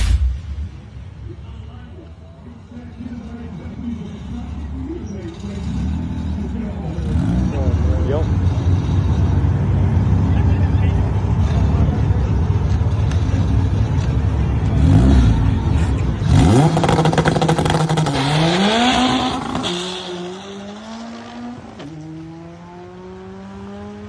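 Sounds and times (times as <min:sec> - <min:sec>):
drag car engine revving: 0:02.6 - 0:24.0.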